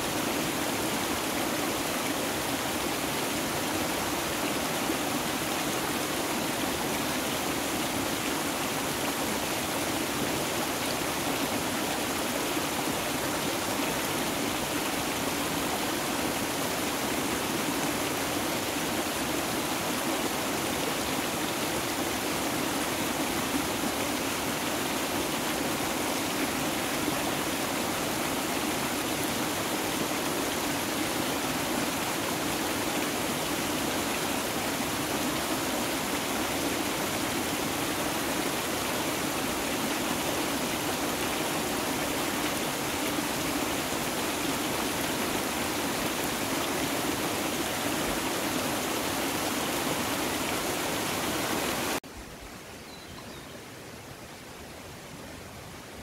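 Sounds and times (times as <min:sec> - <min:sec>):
mountain stream flowing: 0:00.0 - 0:56.0.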